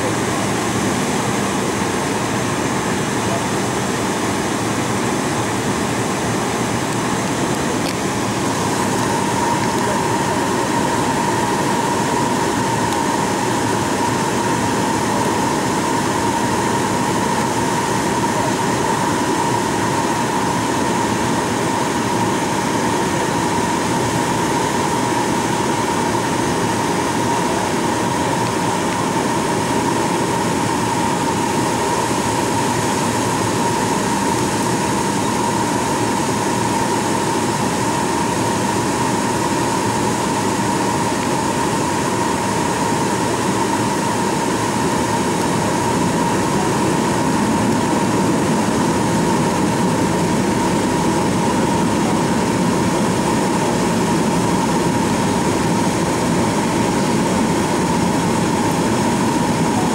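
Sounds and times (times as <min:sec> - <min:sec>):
steady whine: 0:00.0 - 0:59.9.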